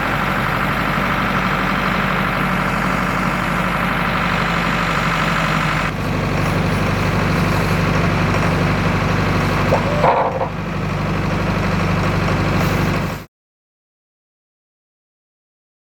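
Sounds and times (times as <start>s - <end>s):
truck engine idling: 0.0s - 13.3s.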